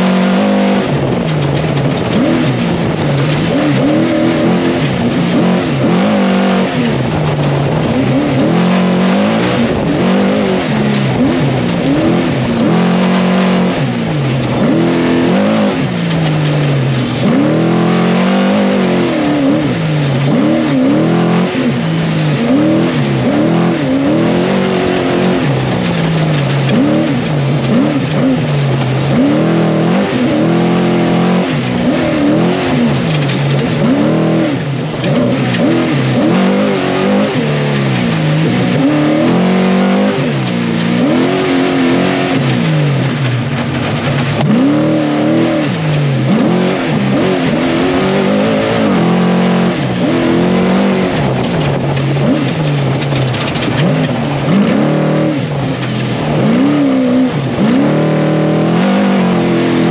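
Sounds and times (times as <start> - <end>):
race engine revving: 0.0 - 59.9
road noise rush: 0.0 - 59.9.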